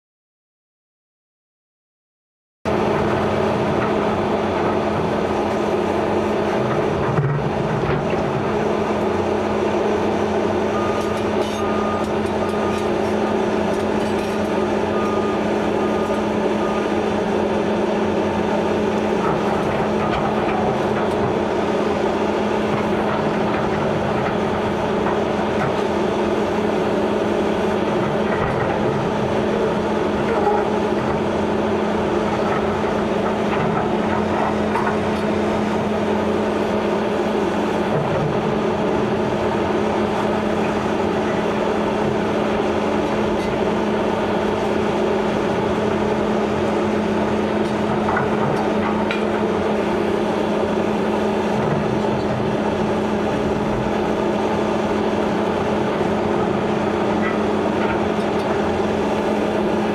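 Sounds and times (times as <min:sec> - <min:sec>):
excavator diesel engine running: 0:02.7 - 0:59.9.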